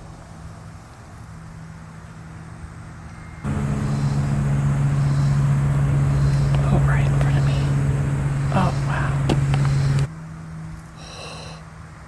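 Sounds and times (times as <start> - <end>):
vehicle low hum: 0.0 - 12.0.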